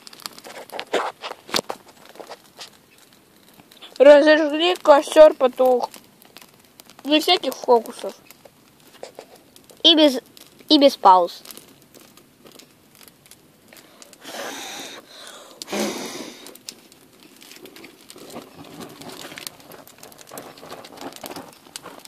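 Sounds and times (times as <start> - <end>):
dry crinkling and crackling: 0.0 - 22.0
rustling bursts: 0.0 - 22.0.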